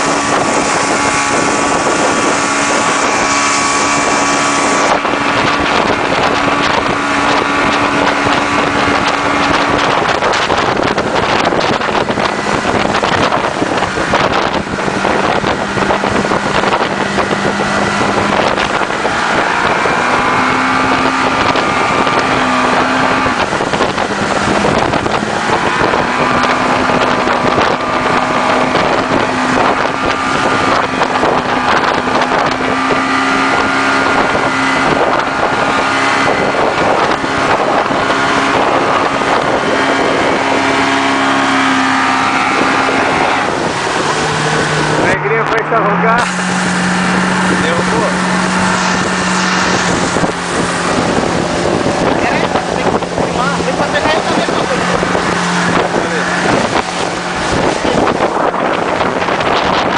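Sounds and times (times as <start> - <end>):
motorboat engine running: 0.0 - 59.9
water rushing: 0.0 - 59.9
wind buffeting microphone: 0.0 - 59.9.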